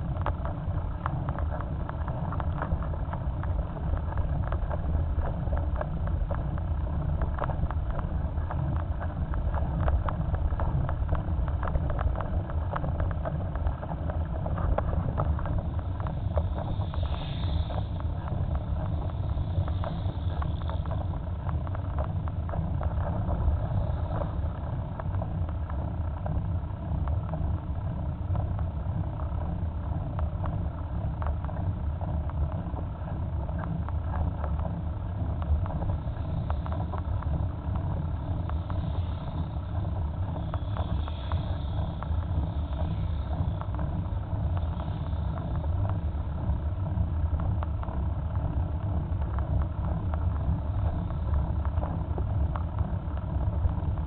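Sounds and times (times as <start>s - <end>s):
bicycle tyre rumble: 0.0s - 54.0s.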